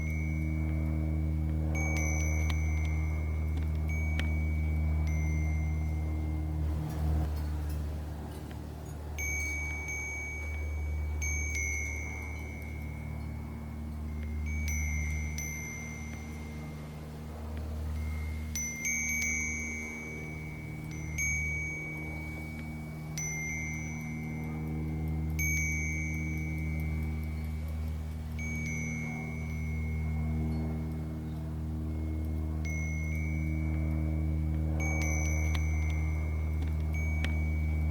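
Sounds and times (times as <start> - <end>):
steady low hum: 0.0 - 37.9
wind chime tubes ringing: 0.0 - 37.9.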